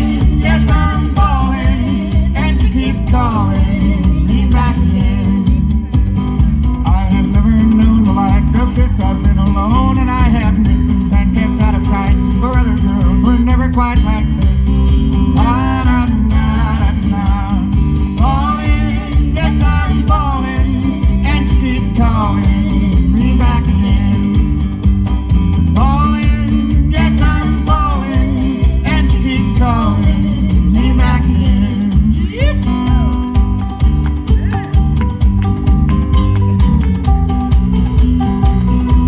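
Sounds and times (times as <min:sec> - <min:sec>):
guitar: 0:00.0 - 0:39.0
lead melody: 0:00.0 - 0:39.0
steady bass: 0:00.0 - 0:39.0.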